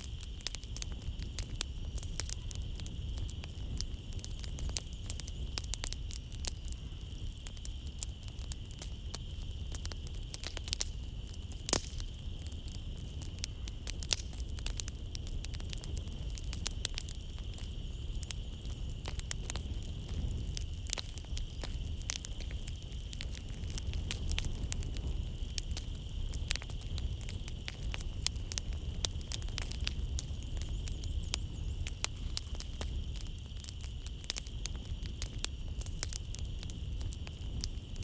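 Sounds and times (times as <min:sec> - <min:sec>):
night insects trilling: 0:00.0 - 0:38.0
wood fire crackling: 0:00.0 - 0:38.0.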